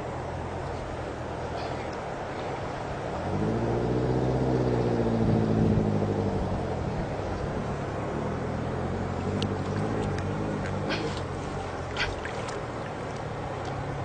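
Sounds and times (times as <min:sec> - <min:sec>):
motor engine passing: 0:00.4 - 0:14.0.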